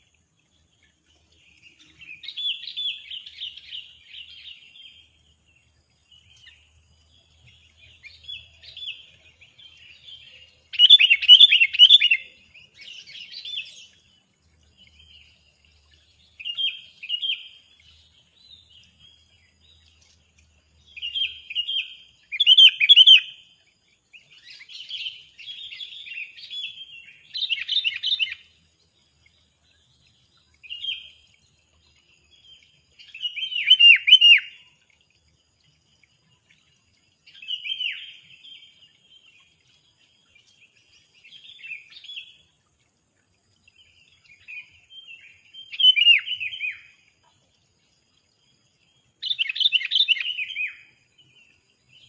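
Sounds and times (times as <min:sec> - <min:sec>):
songbirds chirping and twittering: 0:00.0 - 0:52.0.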